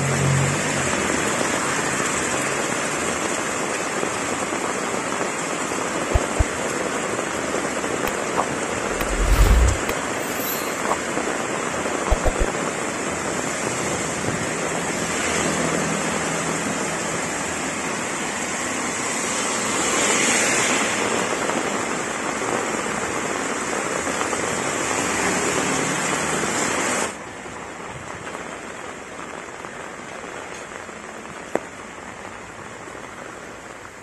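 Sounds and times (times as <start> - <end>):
heavy rain on road and roofs: 0.0 - 34.0.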